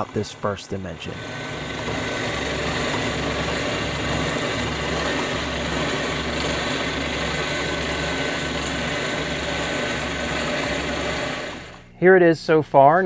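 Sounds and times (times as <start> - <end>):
milling machine cutting metal: 0.0 - 11.8.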